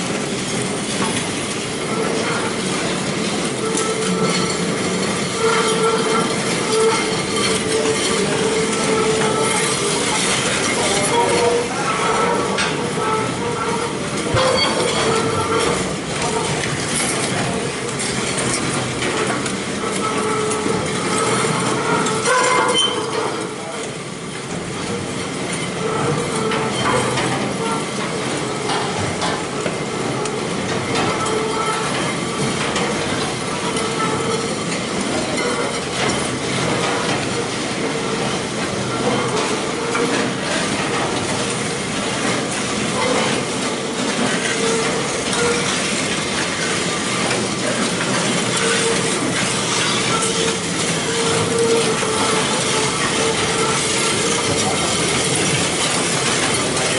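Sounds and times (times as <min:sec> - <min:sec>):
chain scraper clanking: 0:01.8 - 0:23.8, 0:30.1 - 0:56.9.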